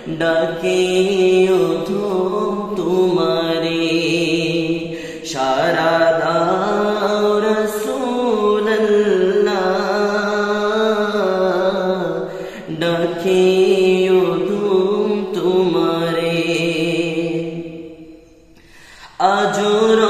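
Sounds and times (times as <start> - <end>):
man singing long held notes: 0.0 - 18.2, 18.9 - 20.0.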